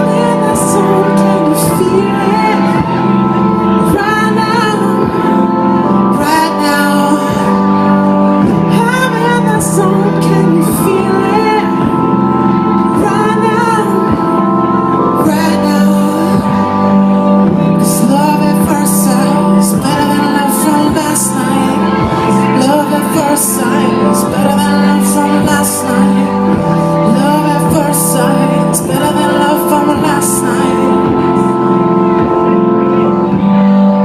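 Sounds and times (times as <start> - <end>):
person singing melody: 0.0 - 34.0
synth-like chords: 0.0 - 34.0.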